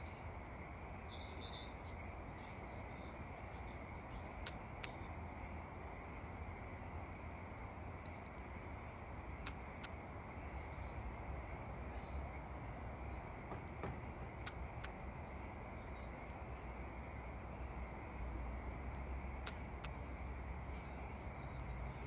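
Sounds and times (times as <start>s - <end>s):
low background hiss and rumble: 0.0s - 22.0s.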